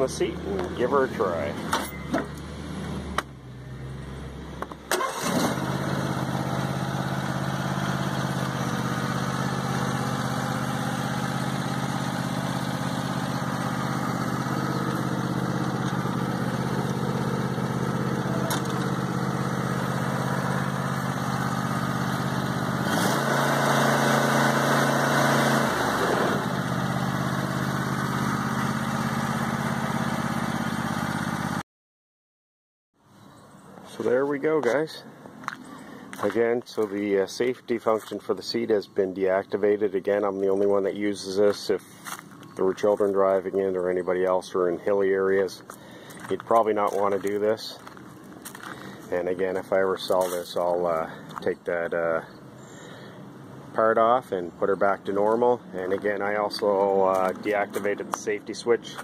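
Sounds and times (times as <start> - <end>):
garden tractor engine idling: 0.0 - 2.6, 3.6 - 31.6, 33.8 - 59.0.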